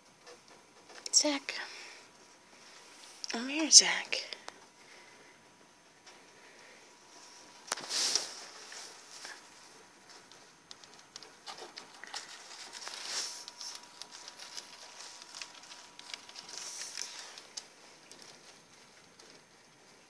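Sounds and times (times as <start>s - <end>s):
rustling: 0.0s - 20.0s.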